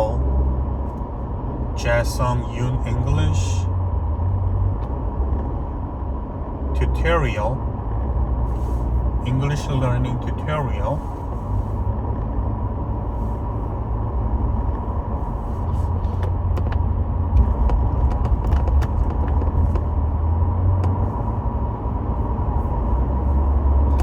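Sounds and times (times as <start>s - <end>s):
low rumble of moving car: 0.0s - 24.0s.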